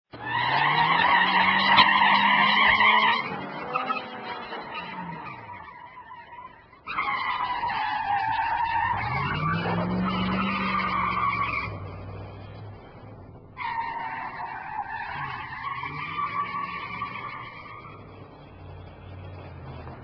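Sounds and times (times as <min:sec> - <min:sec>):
car engine rising: 0:00.1 - 0:20.0
car tyres squealing: 0:00.1 - 0:20.0.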